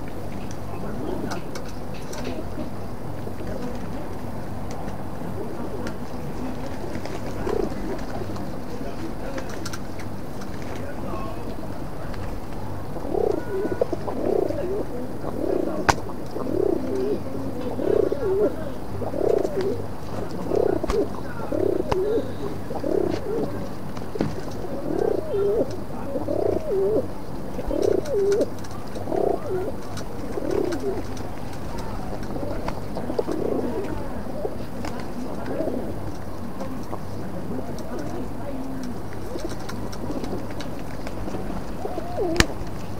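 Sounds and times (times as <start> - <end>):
pigeons cooing: 5.3 - 10.2, 10.8 - 42.9.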